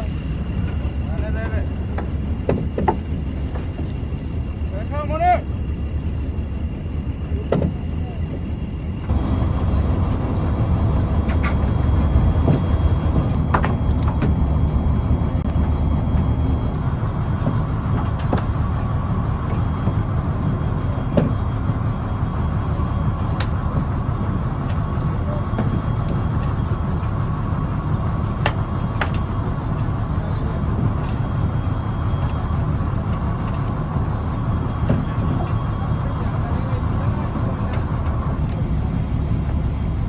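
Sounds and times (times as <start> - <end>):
diesel engine low rumble: 0.0 - 40.0.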